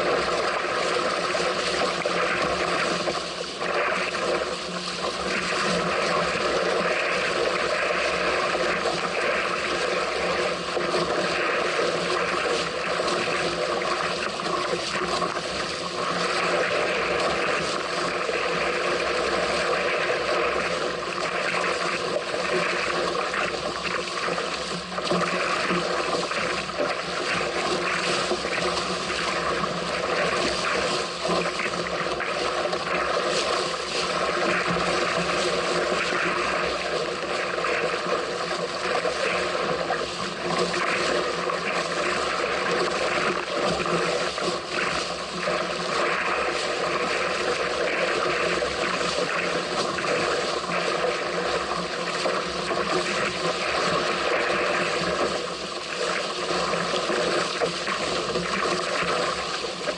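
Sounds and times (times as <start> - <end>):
water rushing and splashing: 0.0 - 59.9.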